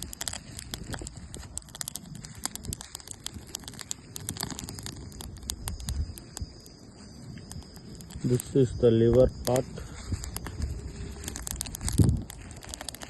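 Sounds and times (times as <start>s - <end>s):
crickets chirring: 0.0s - 13.0s
sharp crackling clicks: 0.0s - 13.0s.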